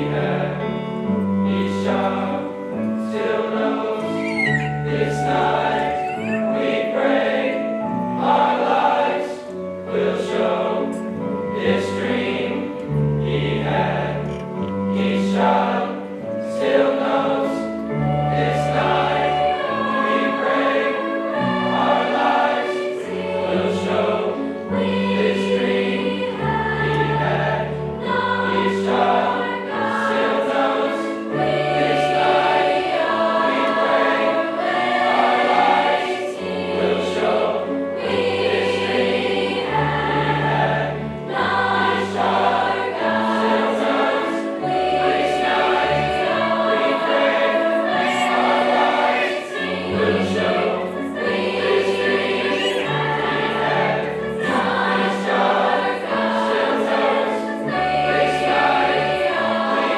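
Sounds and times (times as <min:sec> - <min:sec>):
choir singing with instruments: 0:00.0 - 0:59.9.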